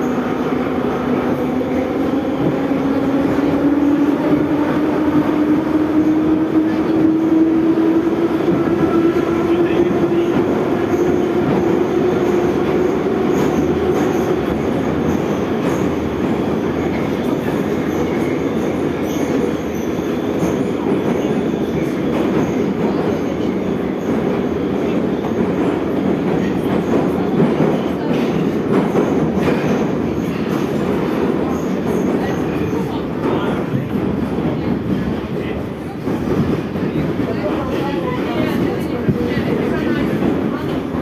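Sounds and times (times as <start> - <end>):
metro train rumbling: 0.0 - 41.0.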